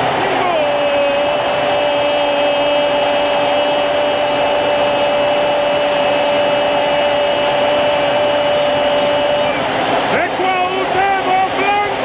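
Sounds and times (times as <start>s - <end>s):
stadium crowd cheering: 0.0s - 12.0s.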